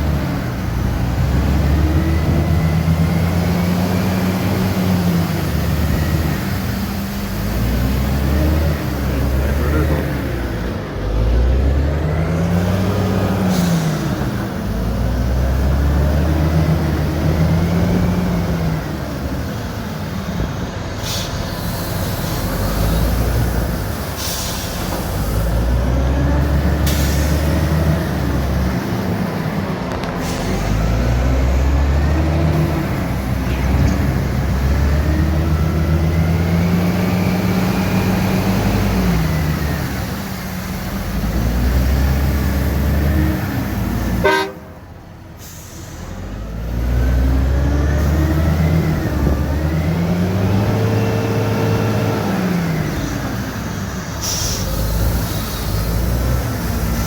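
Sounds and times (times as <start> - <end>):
diesel engine shifting gears: 0.0 - 57.0.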